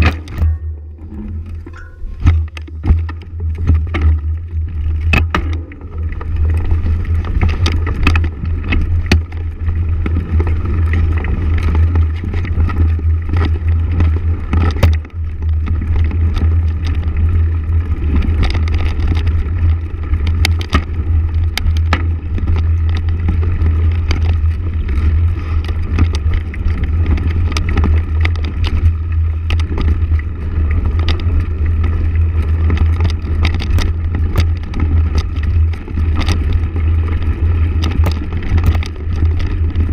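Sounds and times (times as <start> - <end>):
motorcycle running: 0.0 - 39.9
wind rumble on microphone: 0.0 - 39.9.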